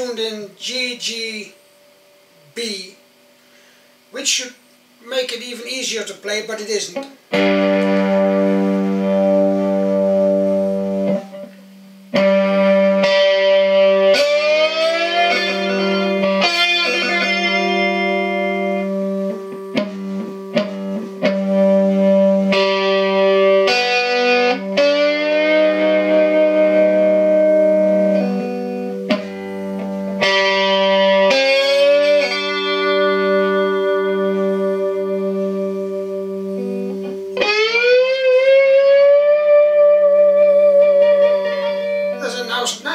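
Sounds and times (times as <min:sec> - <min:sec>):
distorted electric guitar strumming: 0:06.7 - 0:42.9.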